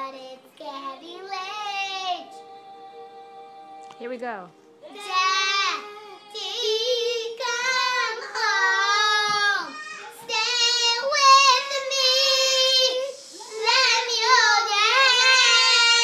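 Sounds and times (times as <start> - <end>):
girl singing: 0.0 - 3.8, 4.8 - 16.0.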